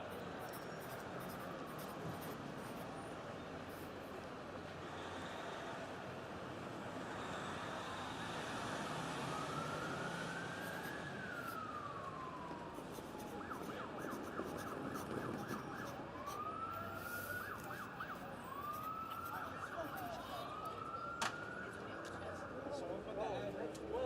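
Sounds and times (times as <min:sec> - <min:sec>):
city traffic: 0:00.0 - 0:24.0
emergency vehicle siren: 0:00.1 - 0:23.3.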